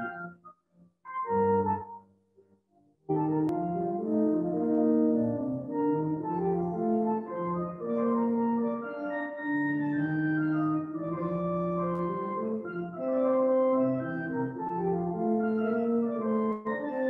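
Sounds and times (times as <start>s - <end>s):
pipe organ playing chords: 3.1s - 17.0s.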